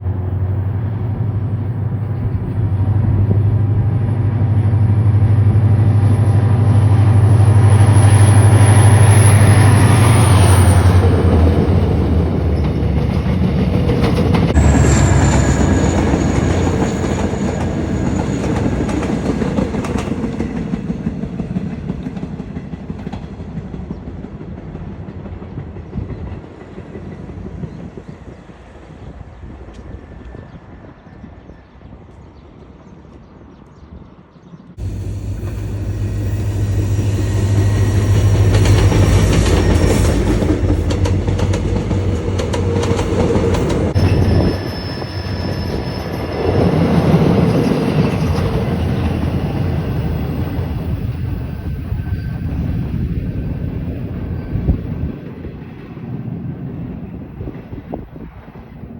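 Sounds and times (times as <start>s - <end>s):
diesel train engine drone: 0.0s - 32.0s, 34.7s - 58.9s.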